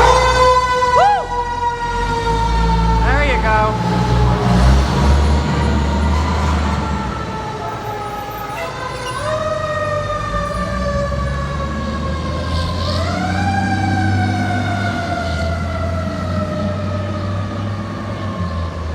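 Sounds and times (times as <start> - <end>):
diesel engine rumbling: 0.0 - 18.9
fire engine siren wailing: 0.0 - 18.9.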